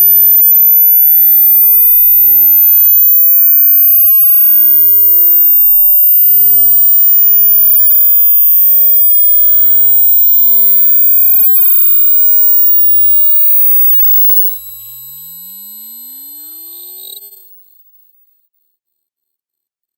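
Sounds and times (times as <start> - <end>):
sine-wave sweep: 0.0 - 18.4.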